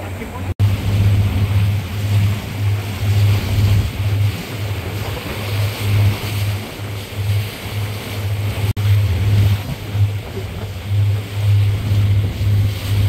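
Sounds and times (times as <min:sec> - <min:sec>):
boat motor humming: 0:00.0 - 0:13.0
water and wind rushing: 0:00.0 - 0:13.0.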